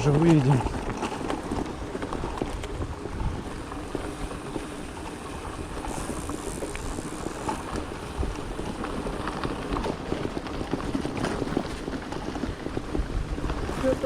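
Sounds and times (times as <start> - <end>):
bicycle tyres rolling on dirt: 0.0 - 14.0
wind on microphone: 0.0 - 14.0.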